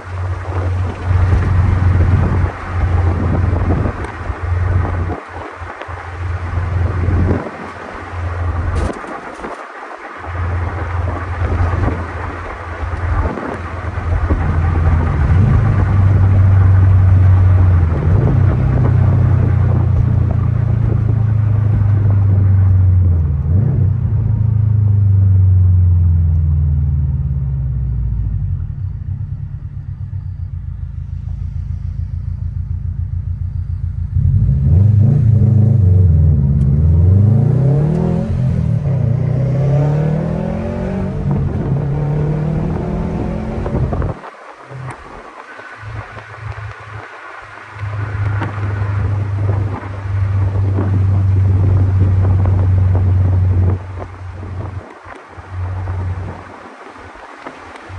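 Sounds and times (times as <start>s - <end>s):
car engine revving while driving: 0.0s - 30.5s, 34.0s - 57.9s.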